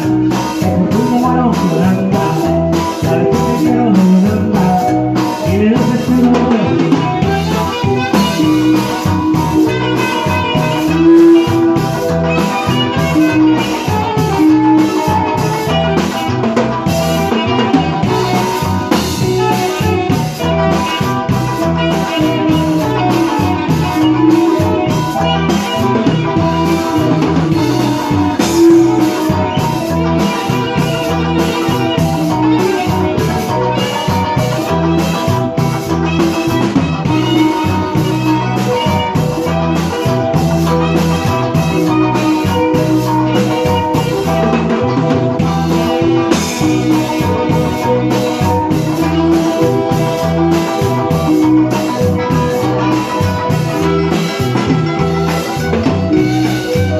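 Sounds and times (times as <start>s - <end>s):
drum kit beat: 0.0s - 56.9s
held melodic notes: 0.0s - 56.9s.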